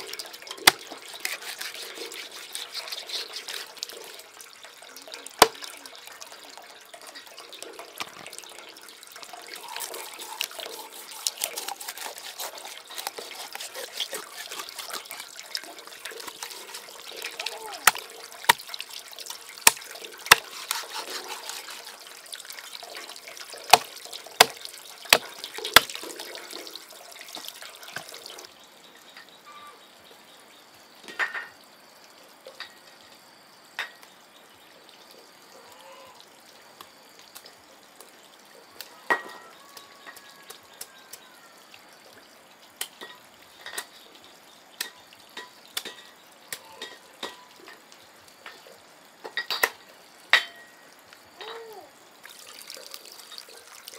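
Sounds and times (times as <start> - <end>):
water trickling and splashing: 0.0 - 53.9.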